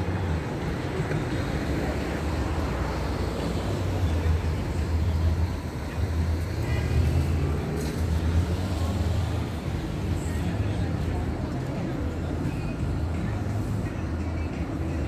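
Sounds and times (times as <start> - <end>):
urban traffic rumble: 0.0 - 15.0.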